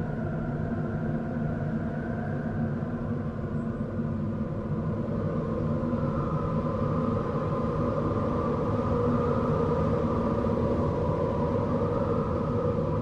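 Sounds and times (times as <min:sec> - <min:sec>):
low rumbling wind with whistling: 0:00.0 - 0:13.0.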